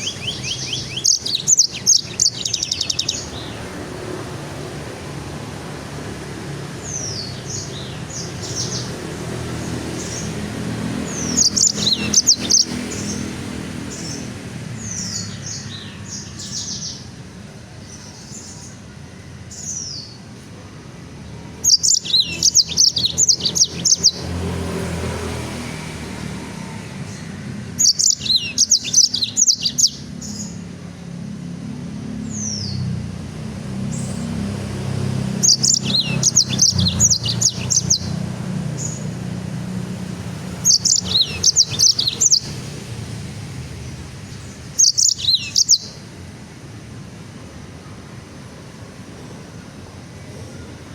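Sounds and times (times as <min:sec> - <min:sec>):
songbird chirping: 0:00.0 - 0:05.0, 0:05.8 - 0:20.4, 0:21.0 - 0:30.7, 0:31.7 - 0:46.2.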